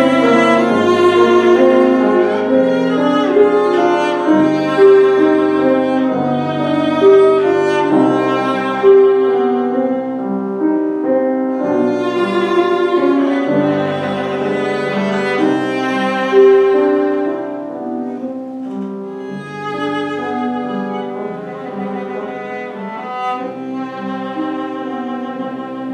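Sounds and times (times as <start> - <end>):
bowed string melody: 0.0 - 25.9
piano accompaniment: 0.0 - 25.9.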